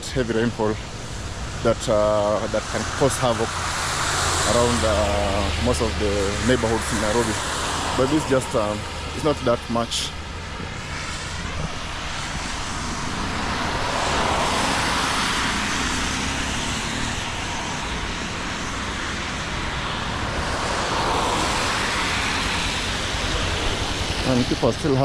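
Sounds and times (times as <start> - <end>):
rain: 0.0 - 25.0
tyres hissing on wet road: 0.0 - 25.0.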